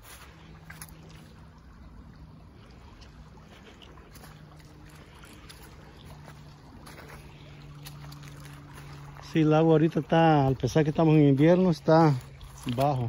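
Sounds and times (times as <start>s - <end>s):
creek trickling over stones: 0.0s - 13.0s
faint low hum: 0.0s - 13.0s.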